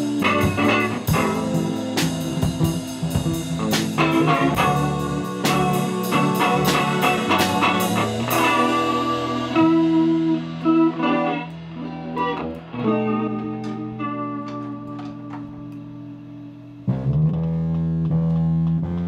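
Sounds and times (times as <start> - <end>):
drums: 0.0 - 19.0
electric guitar: 0.0 - 19.0.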